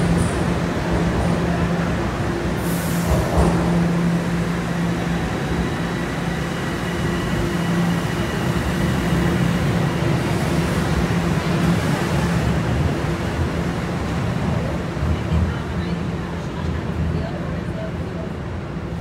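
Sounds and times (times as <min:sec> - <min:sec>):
subway train humming: 0:00.0 - 0:19.0.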